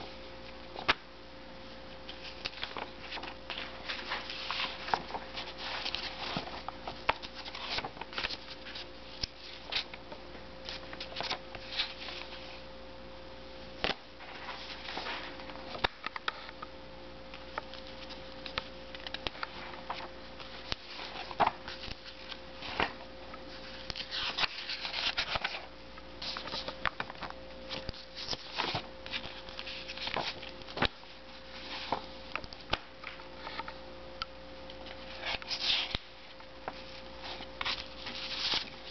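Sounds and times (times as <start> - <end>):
faint steady hum: 0.0 - 38.9
paper pages rustling: 1.7 - 10.0, 10.6 - 12.7, 13.8 - 16.6, 17.3 - 33.8, 34.8 - 38.9.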